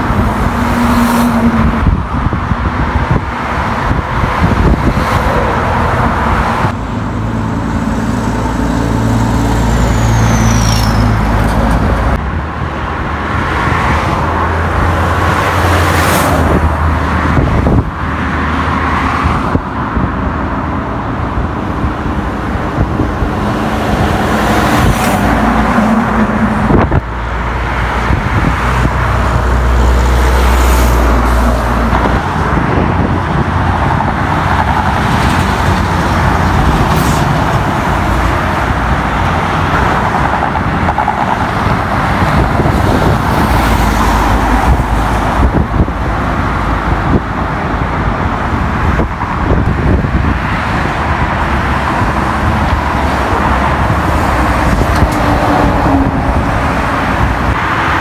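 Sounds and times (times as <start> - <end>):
heavy trucks rumbling past: 0.0 - 58.0
highway traffic roar: 0.0 - 58.0.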